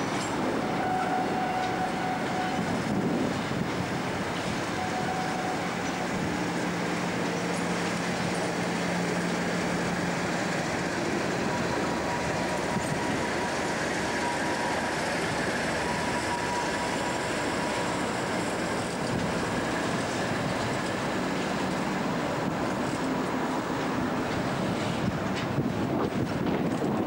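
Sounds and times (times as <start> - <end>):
diesel locomotive engine: 0.0 - 27.0
freight wagons rolling on rails: 0.0 - 27.0.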